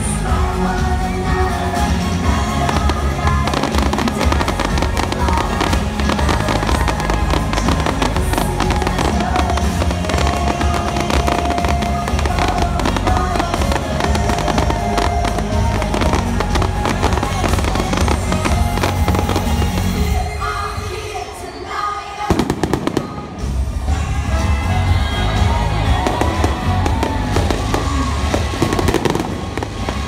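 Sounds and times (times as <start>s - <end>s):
music playing: 0.0s - 30.0s
fireworks popping and crackling: 1.5s - 20.3s, 22.3s - 23.9s, 26.0s - 30.0s.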